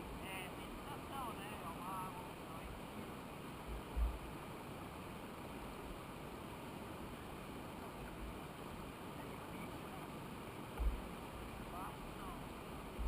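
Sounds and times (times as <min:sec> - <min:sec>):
flowing water: 0:00.0 - 0:13.0.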